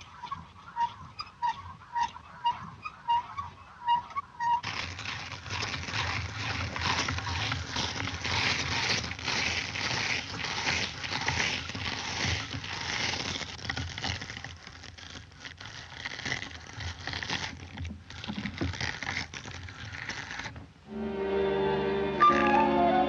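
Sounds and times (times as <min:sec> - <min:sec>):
dense rustling scraping with clicks: 0:00.0 - 0:20.8.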